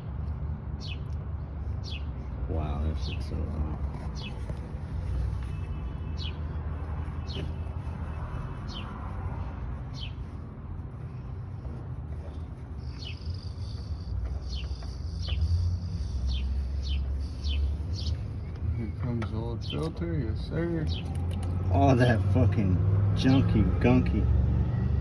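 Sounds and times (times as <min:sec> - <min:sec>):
bird chirping: 0:00.8 - 0:21.6.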